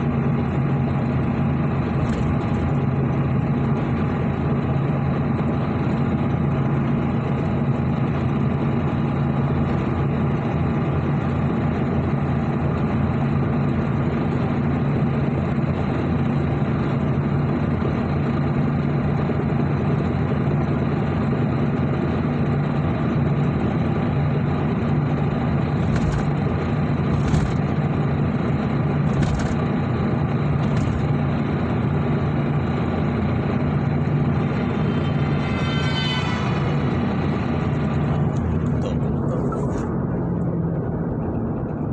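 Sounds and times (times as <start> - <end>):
vehicle engine humming: 0.0 - 41.9.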